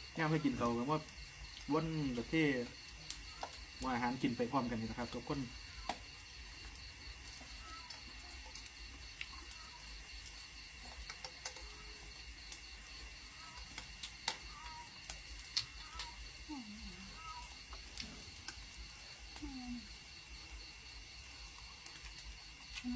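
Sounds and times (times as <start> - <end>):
insects trilling: 0.0 - 22.9.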